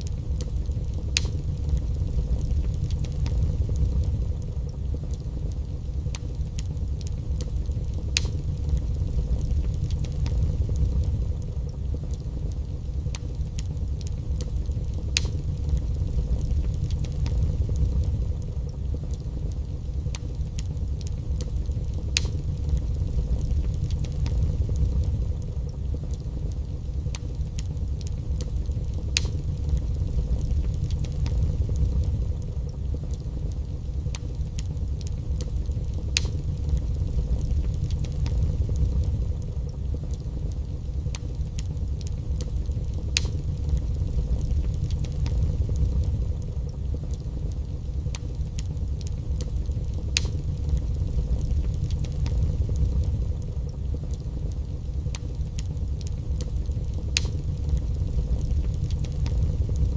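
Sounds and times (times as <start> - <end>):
fire crackling and popping: 0.0 - 59.9
wood fire rumbling: 0.0 - 59.9.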